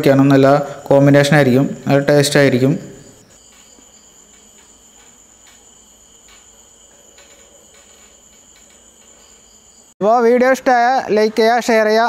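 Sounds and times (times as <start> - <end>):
crickets trilling: 0.0 - 12.0
short cricket chirps: 0.2 - 10.0.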